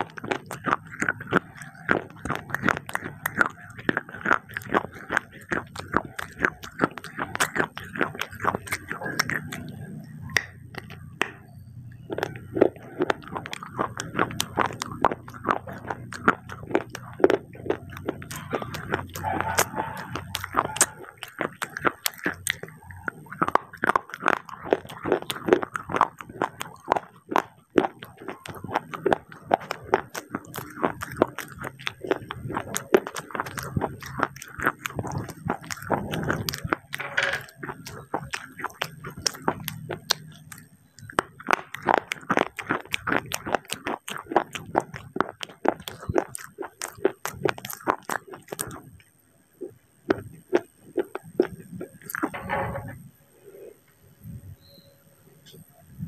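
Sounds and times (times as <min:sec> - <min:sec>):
crunchy chewing: 0:00.0 - 0:55.8.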